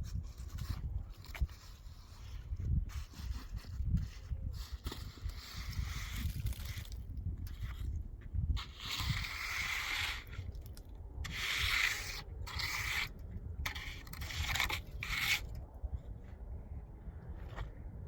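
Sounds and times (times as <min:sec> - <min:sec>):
rough scraping strokes: 0:00.0 - 0:16.4.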